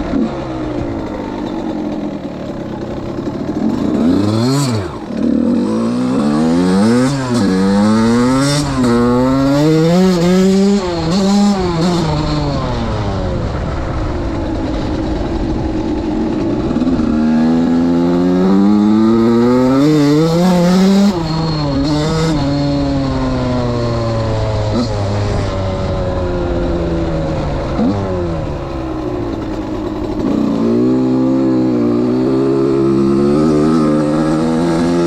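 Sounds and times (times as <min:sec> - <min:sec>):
two-stroke motocross engine revving: 0:00.0 - 0:35.0.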